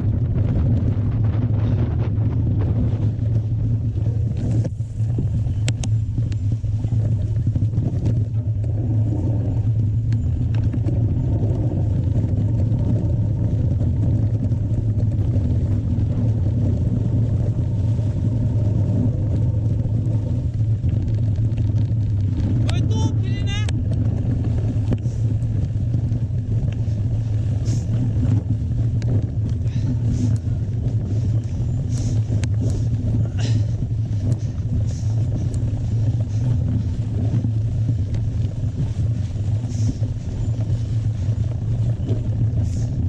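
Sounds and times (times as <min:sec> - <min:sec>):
faint clicks and rattles: 0:00.0 - 0:18.2, 0:18.9 - 0:43.0
mountain bike rumble: 0:00.0 - 0:43.0.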